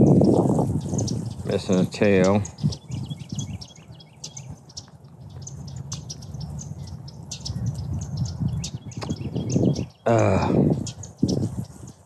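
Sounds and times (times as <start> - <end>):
steady low rumble: 0.0 - 11.8
small birds chirping: 0.0 - 12.0.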